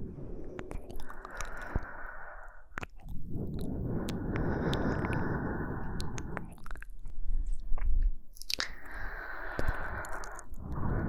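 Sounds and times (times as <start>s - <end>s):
soft breathing: 0.0s - 11.0s
mouth clicks: 0.3s - 11.0s.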